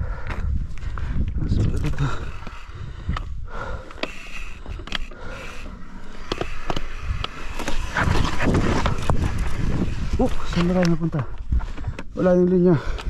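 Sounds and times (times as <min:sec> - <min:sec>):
bike rattling and clicking: 0:00.2 - 0:13.0
bike tyres scraping on rock: 0:00.8 - 0:12.9.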